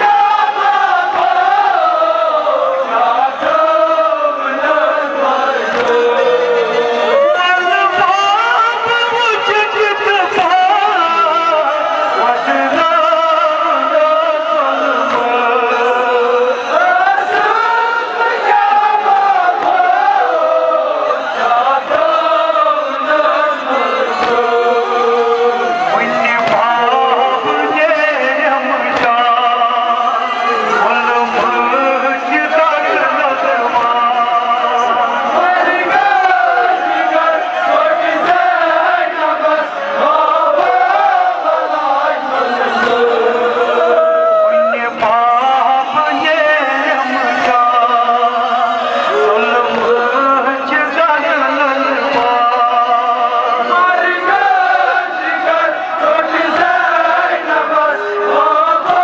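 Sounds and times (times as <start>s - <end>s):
man singing into a microphone: 0.0s - 59.0s
men chanting a lament: 0.0s - 59.0s.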